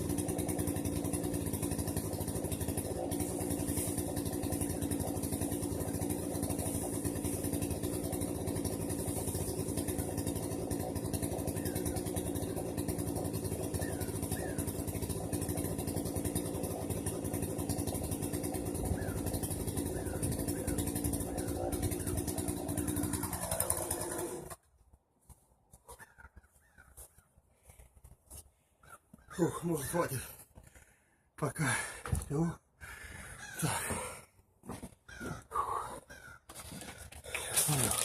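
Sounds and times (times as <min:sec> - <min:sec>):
small petrol engine running: 0:00.0 - 0:24.7, 0:29.2 - 0:38.0.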